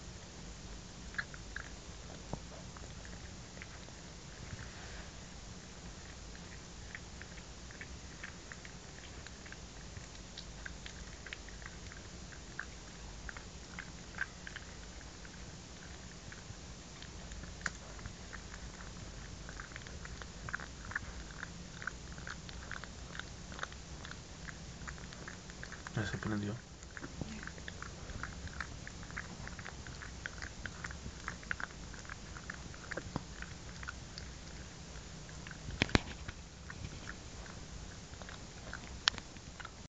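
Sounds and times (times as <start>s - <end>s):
dog licking and nibbling: 1.0s - 39.9s.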